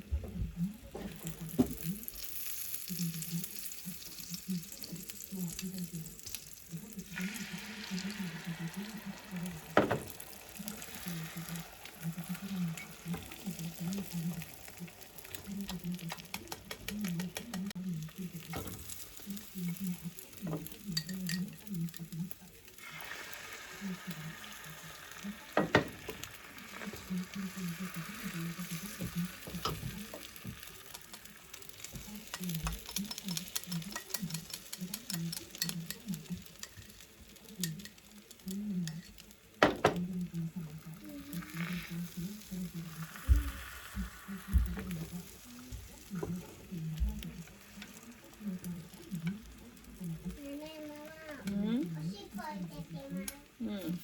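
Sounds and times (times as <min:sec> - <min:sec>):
food sizzling in a frying pan: 0:00.8 - 0:54.0.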